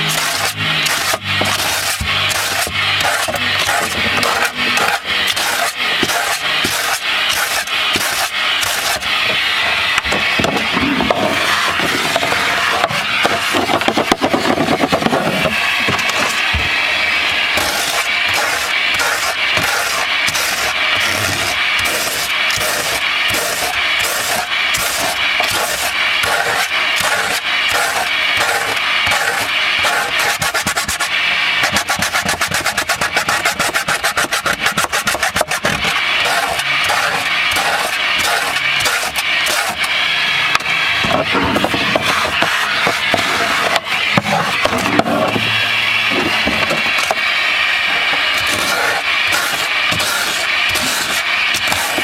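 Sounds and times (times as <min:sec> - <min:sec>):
hand sanding with sandpaper: 0:00.0 - 0:16.6, 0:17.5 - 0:39.9, 0:41.0 - 0:45.5, 0:47.9 - 0:52.0
nozzle scraping along wood: 0:00.0 - 0:16.6, 0:17.3 - 0:39.9, 0:40.5 - 0:47.3, 0:47.9 - 0:52.0
vacuum nozzle sucking dust: 0:00.0 - 0:52.0.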